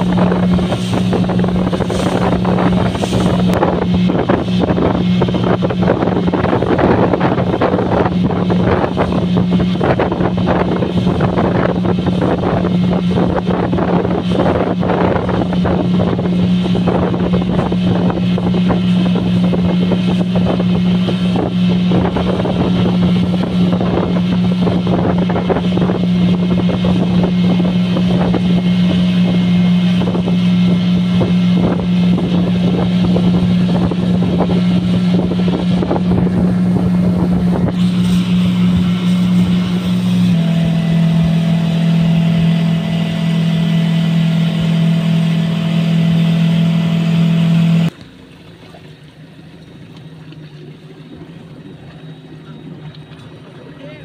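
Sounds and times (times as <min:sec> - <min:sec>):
outboard motor running: 0:00.0 - 0:54.0
water rushing: 0:00.0 - 0:54.0.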